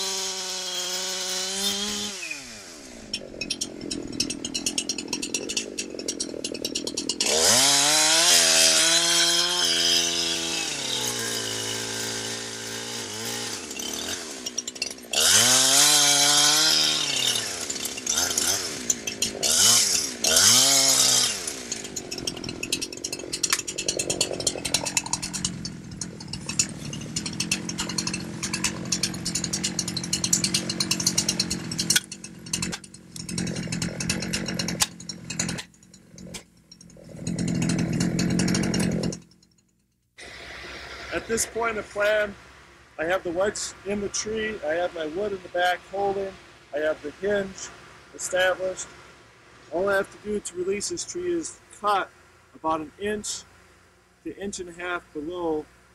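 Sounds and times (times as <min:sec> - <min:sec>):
chainsaw cutting wood: 0:00.0 - 0:39.6, 0:40.2 - 0:42.4, 0:43.0 - 0:49.0.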